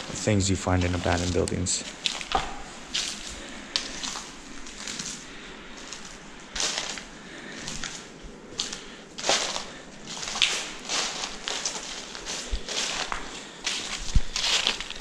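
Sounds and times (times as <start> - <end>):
footsteps crunching through paper and rubble: 0.0 - 15.0.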